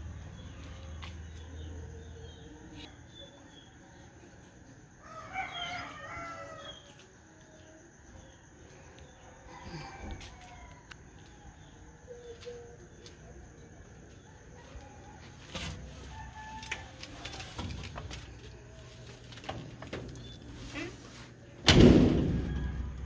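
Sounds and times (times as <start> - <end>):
roosters crowing faintly: 0.0 - 23.0.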